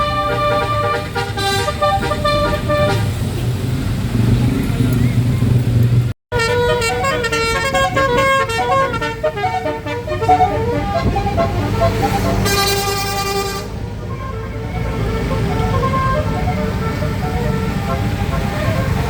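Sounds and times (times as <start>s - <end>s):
multi-tone air horn tune: 0.0s - 3.2s, 6.3s - 19.0s
held horn blast: 0.0s - 3.5s, 6.3s - 19.0s.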